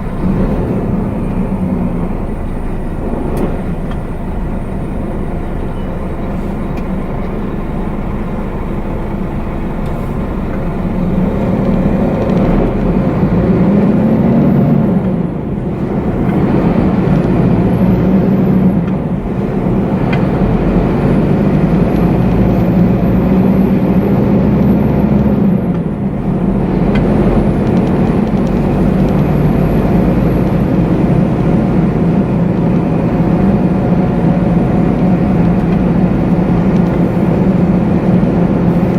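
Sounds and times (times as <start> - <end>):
truck diesel engine accelerating: 0.0 - 38.9.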